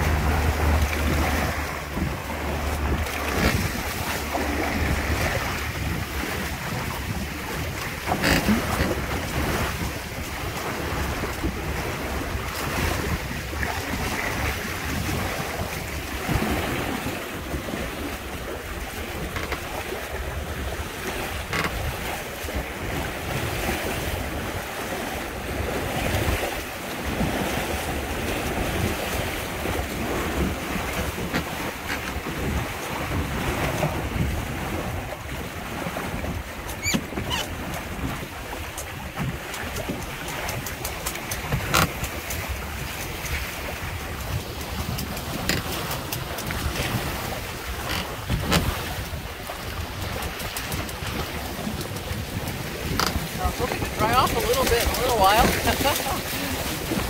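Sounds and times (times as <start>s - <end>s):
water rushing along hulls: 0.0s - 57.0s
water splashes: 0.0s - 57.0s
wind buffeting microphone: 0.0s - 57.0s.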